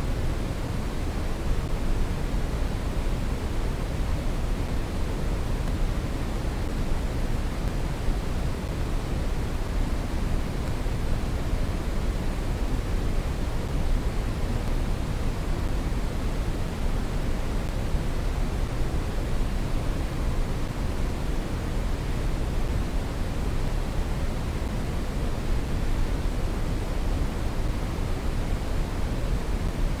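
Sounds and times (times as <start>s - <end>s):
brown noise hiss: 0.0s - 30.0s.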